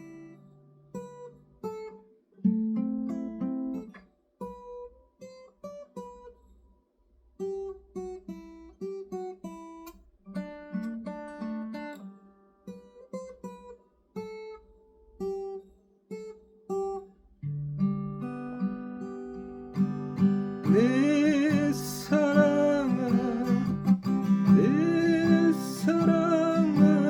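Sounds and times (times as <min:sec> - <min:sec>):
acoustic guitar playing: 0:00.0 - 0:06.7, 0:07.4 - 0:27.0.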